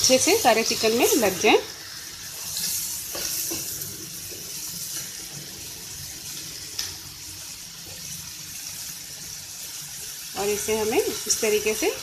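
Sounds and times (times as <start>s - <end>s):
chicken sizzling in a pan: 0.0s - 12.0s
spatula stirring food in a pan: 0.0s - 12.0s.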